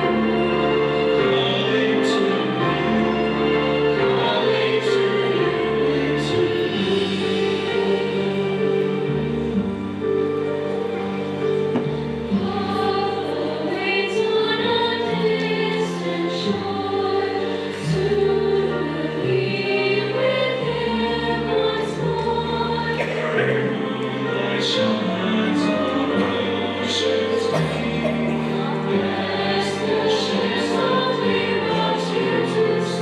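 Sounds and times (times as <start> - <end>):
choir singing with accompaniment: 0.0 - 33.0.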